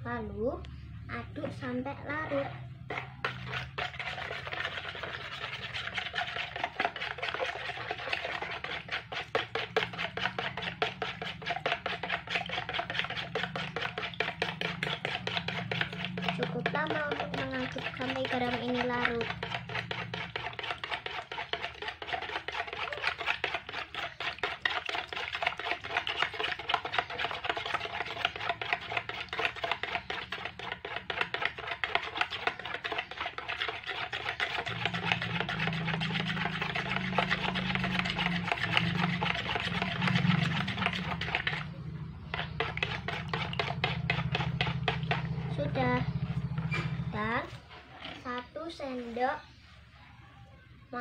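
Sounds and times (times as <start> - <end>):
metal spoon scraping plastic bowl: 1.4 - 49.6.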